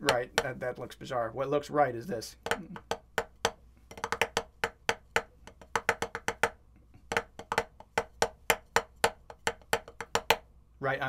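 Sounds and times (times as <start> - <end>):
drumsticks tapping practice pad: 0.0 - 0.9, 2.3 - 10.5.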